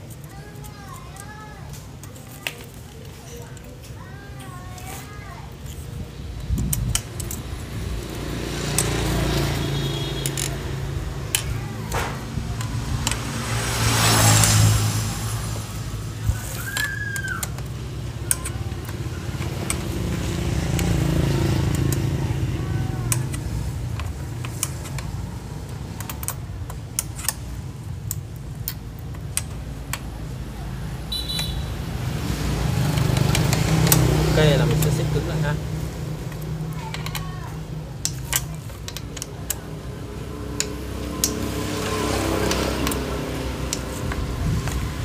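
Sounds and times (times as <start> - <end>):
metal parts clicking and clinking: 0.0 - 13.6, 15.6 - 30.4, 32.9 - 44.9.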